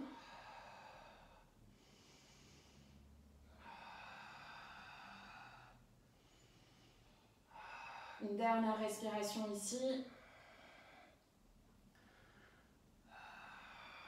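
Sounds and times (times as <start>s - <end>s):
woman breathing softly: 0.0s - 8.3s, 10.1s - 14.0s.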